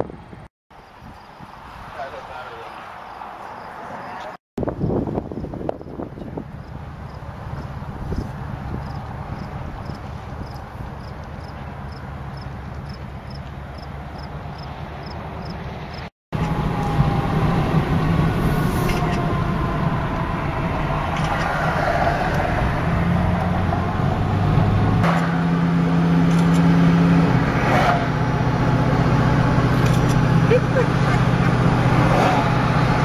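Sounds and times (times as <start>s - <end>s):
engine hum and tyre noise: 0.0s - 33.0s.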